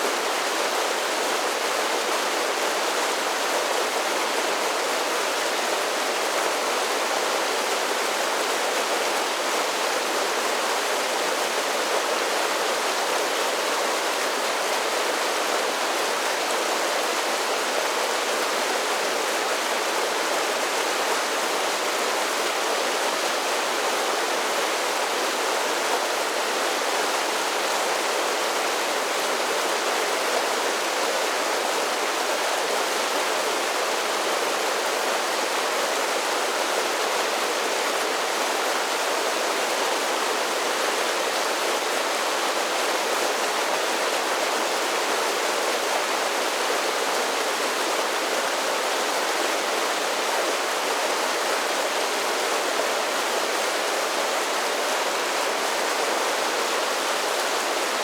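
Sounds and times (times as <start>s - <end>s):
creek rushing over small falls: 0.0s - 58.0s.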